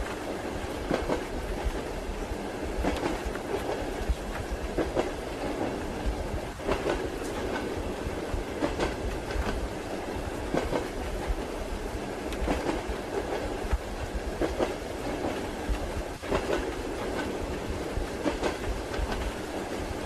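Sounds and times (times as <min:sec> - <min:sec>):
railway carriage rumble: 0:00.0 - 0:20.0
train wheels clacking over joints: 0:02.8 - 0:11.4, 0:12.2 - 0:20.0.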